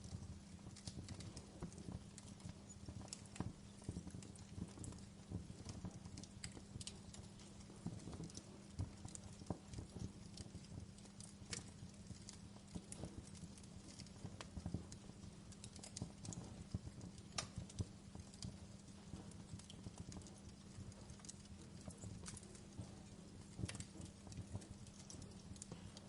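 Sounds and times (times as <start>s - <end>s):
low steady hum: 0.0s - 26.0s
wood fire crackling: 0.0s - 26.0s.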